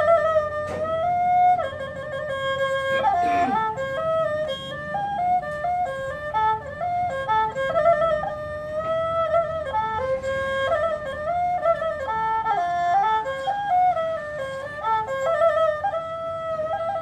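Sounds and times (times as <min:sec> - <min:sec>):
bowed fiddle melody: 0:00.0 - 0:17.0.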